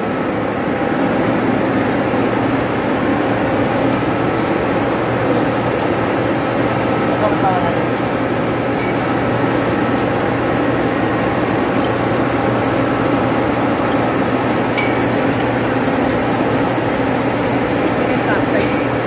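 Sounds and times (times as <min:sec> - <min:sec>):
pump machinery humming: 0:00.0 - 0:19.0.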